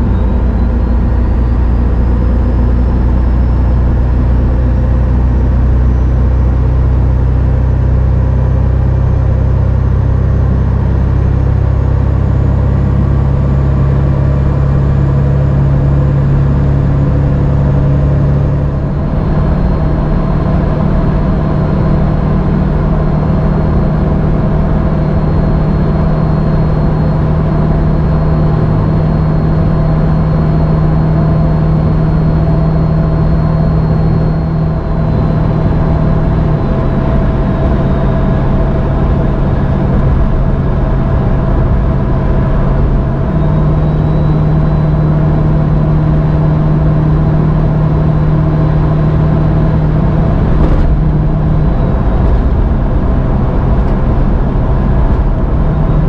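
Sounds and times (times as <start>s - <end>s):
pickup truck engine drone: 0.0s - 56.0s
road noise: 0.0s - 56.0s.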